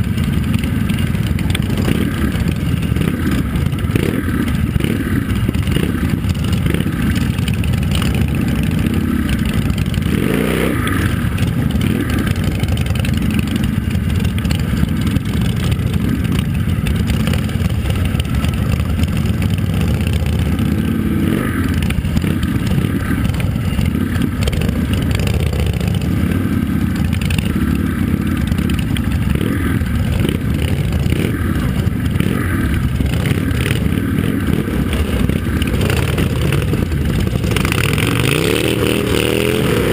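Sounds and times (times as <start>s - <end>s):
motorcycle engine revving: 0.0s - 39.9s
motorcycle engines rumbling: 0.0s - 39.9s.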